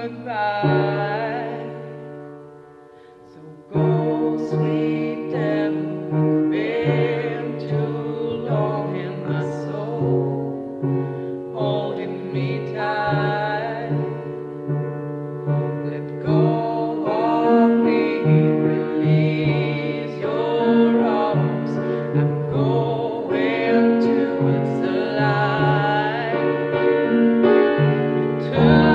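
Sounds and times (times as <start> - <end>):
person singing: 0.0 - 2.4, 3.0 - 14.7, 15.4 - 28.9
low piano accompaniment: 0.0 - 28.9.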